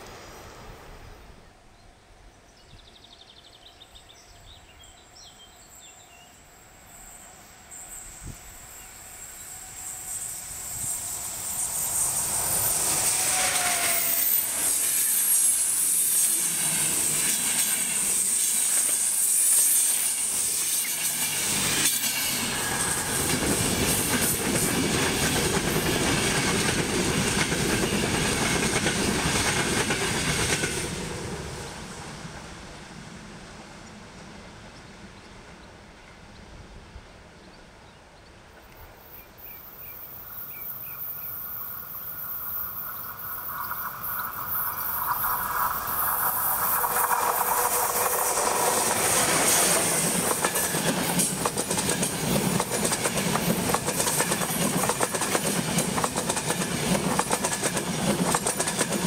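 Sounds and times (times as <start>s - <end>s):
train coaches clattering past: 5.7s - 36.3s, 38.5s - 59.0s.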